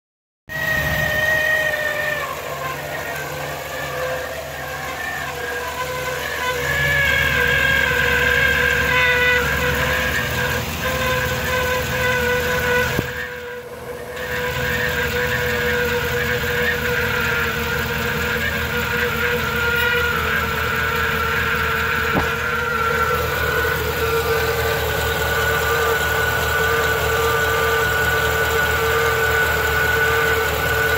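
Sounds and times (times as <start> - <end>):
van engine running: 0.5 - 30.9
whine from under the hood: 0.5 - 30.9.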